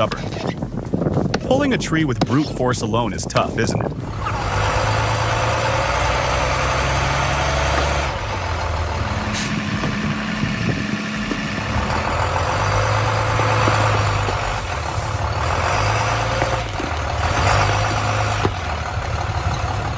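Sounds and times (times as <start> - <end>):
bus engine running under load: 3.4 - 19.9.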